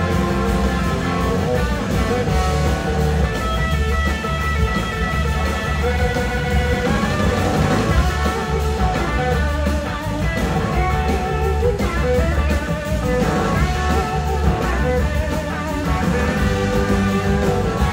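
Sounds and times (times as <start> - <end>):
blues-rock band playing: 0.0 - 17.9
electric guitar lead: 0.0 - 17.9.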